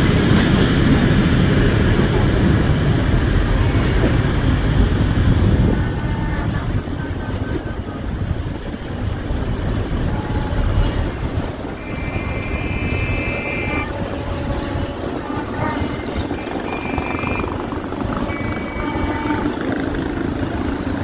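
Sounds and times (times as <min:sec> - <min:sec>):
freight train rumbling past: 0:00.0 - 0:21.0
traffic rumble: 0:00.0 - 0:21.0.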